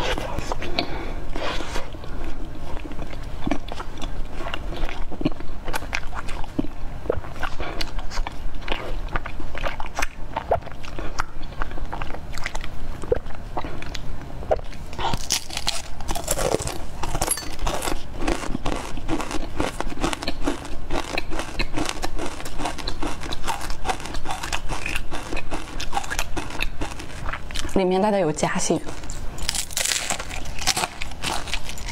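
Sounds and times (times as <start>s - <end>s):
soft wet chewing: 0.0s - 27.8s, 28.6s - 31.9s.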